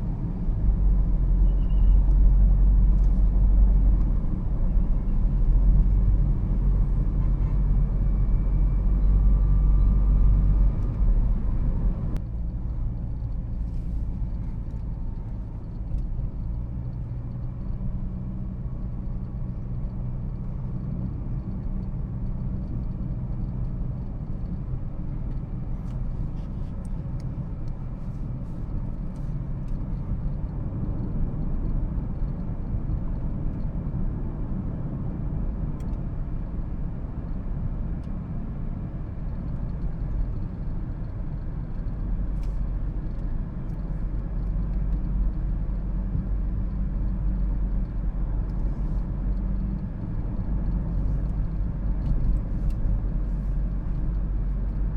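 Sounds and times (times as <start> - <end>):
car road and drivetrain rumble: 0.0 - 54.9.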